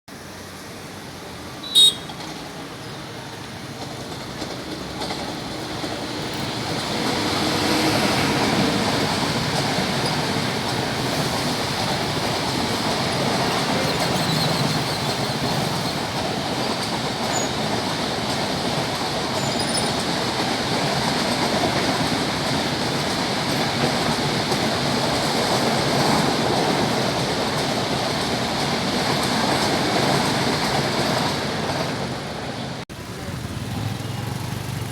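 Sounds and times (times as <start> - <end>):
train rolling on track: 0.1 - 34.9.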